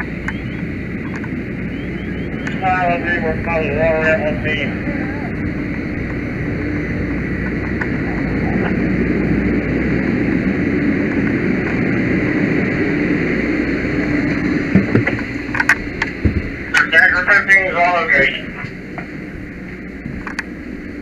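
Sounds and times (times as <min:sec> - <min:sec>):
engine droning: 0:00.0 - 0:21.0.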